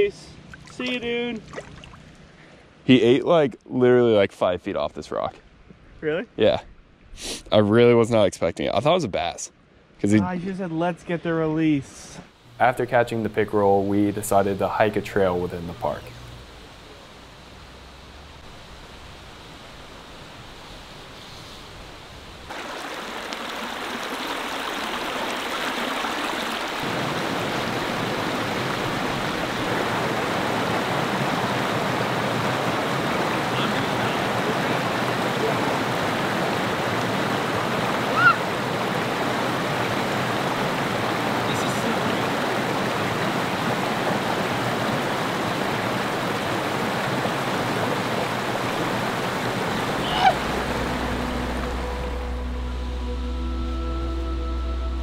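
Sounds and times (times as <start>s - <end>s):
stream water flowing: 0.4s - 2.8s, 12.3s - 54.4s.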